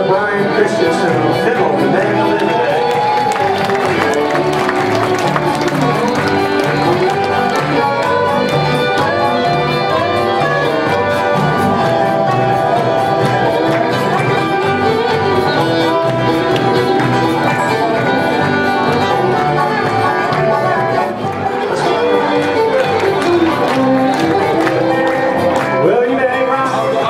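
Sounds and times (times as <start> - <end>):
fiddle: 0.0 - 26.6
acoustic guitar: 0.0 - 27.0
bluegrass band playing: 0.0 - 27.0
dobro: 0.0 - 27.0
drums keeping a steady beat: 1.1 - 25.9.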